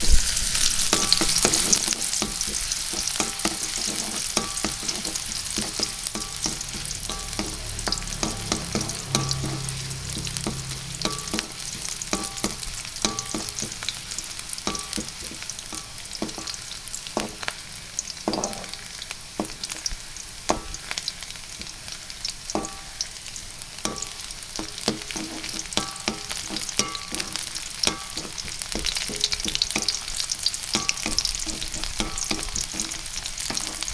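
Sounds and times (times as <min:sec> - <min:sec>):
oil sizzling in a pan: 0:00.0 - 0:33.9.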